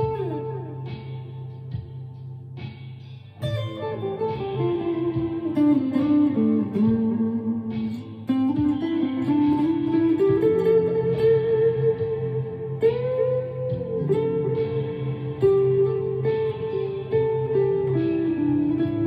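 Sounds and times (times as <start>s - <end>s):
electric guitar sliding notes: 0.0s - 19.0s.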